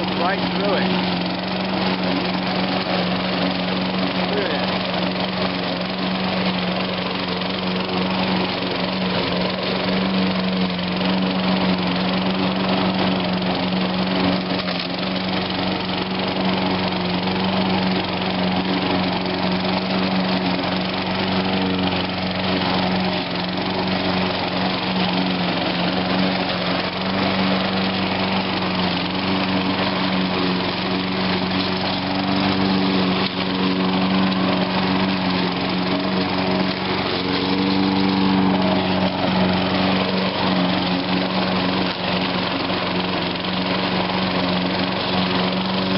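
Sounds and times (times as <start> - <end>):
lawn mower engine droning: 0.0 - 45.9.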